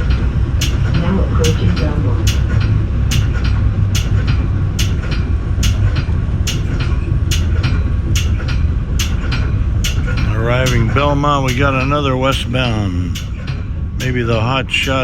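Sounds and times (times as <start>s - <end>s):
train car rumbling on track: 0.0s - 15.0s.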